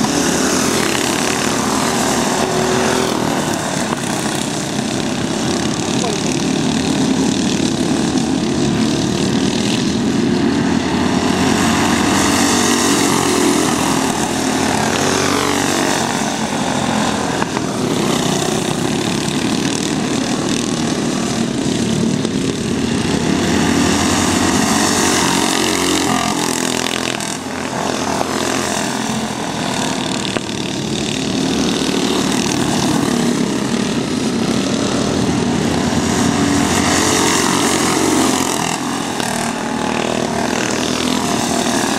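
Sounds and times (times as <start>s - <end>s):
go-kart engines buzzing: 0.0s - 41.9s.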